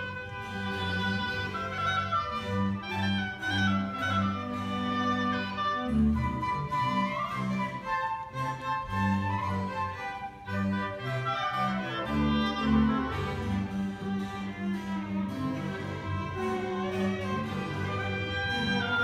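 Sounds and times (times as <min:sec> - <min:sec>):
double bass repeated notes: 0:00.0 - 0:19.0
flute melody: 0:00.0 - 0:19.0
violin: 0:00.0 - 0:19.0.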